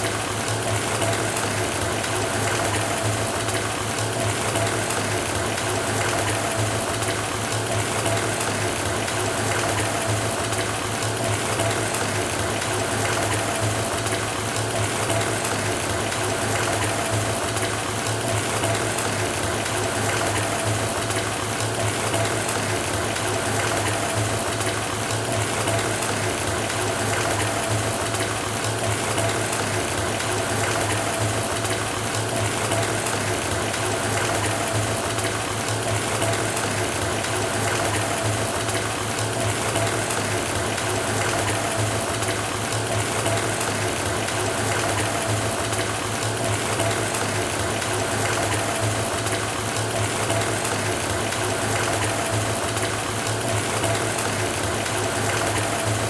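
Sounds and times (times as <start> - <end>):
water running into bathtub: 0.0 - 56.0.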